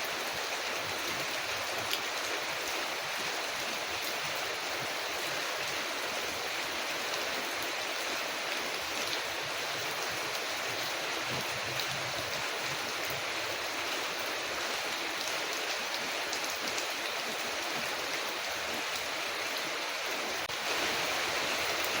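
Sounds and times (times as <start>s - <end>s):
rain on a window: 0.0s - 22.0s.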